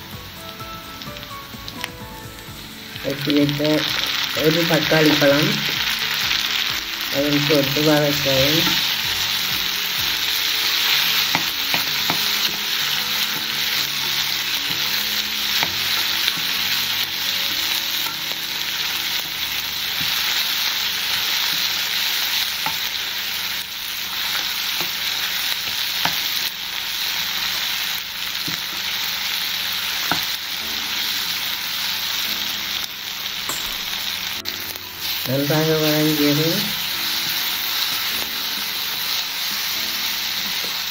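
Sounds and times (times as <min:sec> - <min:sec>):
food sizzling in oil: 0:00.0 - 0:40.9.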